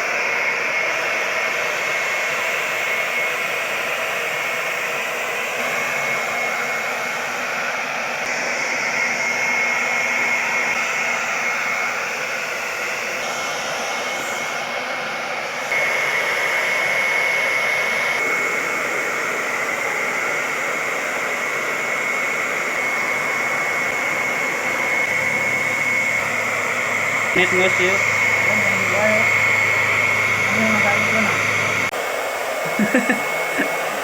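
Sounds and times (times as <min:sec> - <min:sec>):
blow dryer running: 0:00.0 - 0:34.0.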